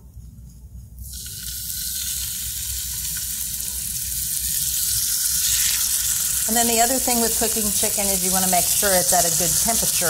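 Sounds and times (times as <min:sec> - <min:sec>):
chicken sizzling in hot oil: 0:01.0 - 0:10.0.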